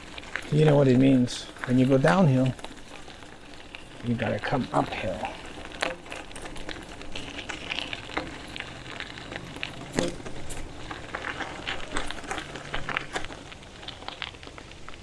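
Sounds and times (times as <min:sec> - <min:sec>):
bicycle tyres crackling on rough ground: 0:00.0 - 0:15.0.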